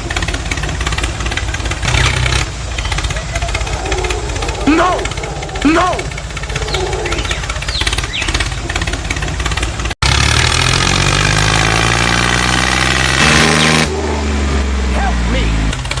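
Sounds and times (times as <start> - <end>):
fast engine rattle: 0.0 - 14.0, 15.3 - 16.0
engine drone: 0.0 - 16.0.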